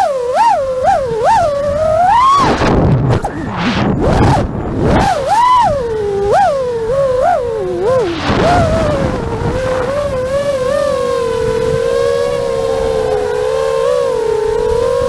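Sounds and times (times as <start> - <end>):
drone propellers whining: 0.0 - 15.0
rush of wind: 0.0 - 15.0.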